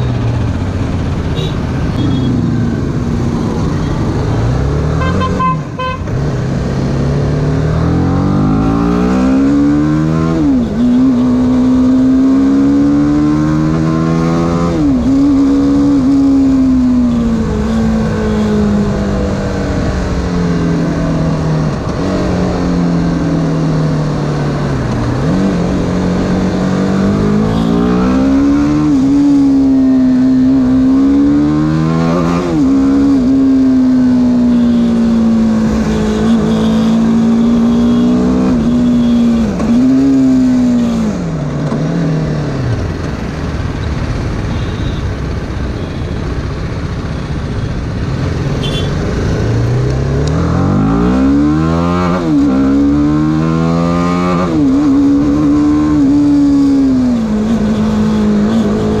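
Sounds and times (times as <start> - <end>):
motorcycle engine revving through gears: 6.1 - 44.0, 48.0 - 59.0.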